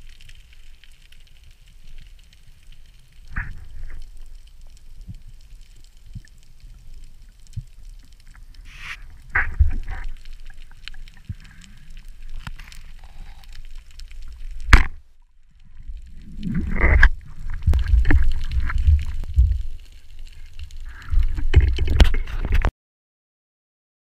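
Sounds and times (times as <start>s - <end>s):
underwater rushing and bubbling: 0.0s - 22.7s.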